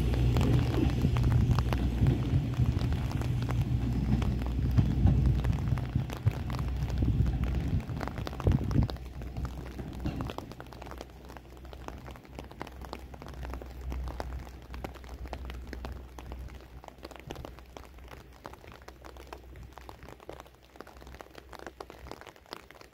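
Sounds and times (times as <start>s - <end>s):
steady low rumble: 0.0s - 20.3s
raindrops pattering: 0.0s - 22.9s.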